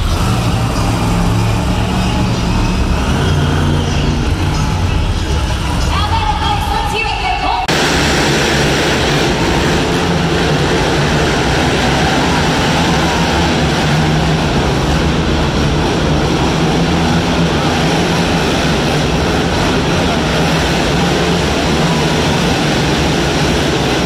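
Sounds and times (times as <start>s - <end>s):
atv engines droning: 0.0s - 6.9s, 7.6s - 24.0s.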